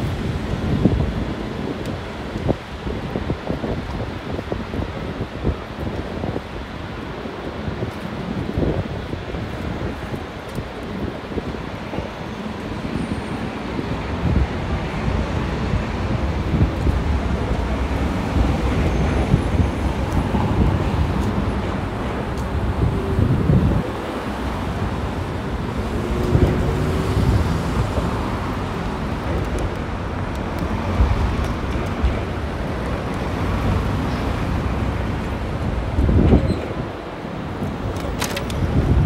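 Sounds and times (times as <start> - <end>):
cars passing by: 6.2 - 39.0.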